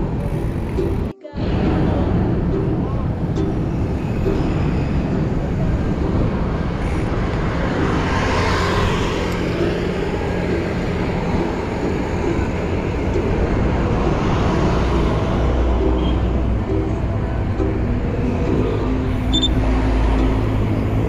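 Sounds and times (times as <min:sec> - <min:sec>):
road traffic noise: 0:00.0 - 0:21.0
wind rumble on microphone: 0:00.0 - 0:21.0
vehicle passing: 0:01.4 - 0:21.0.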